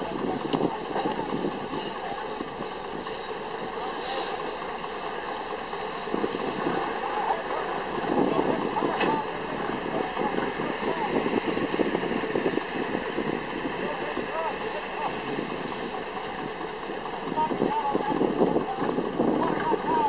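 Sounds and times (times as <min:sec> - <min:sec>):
steam engine exhaust beating: 0:00.0 - 0:20.0
steam hiss: 0:00.1 - 0:20.0.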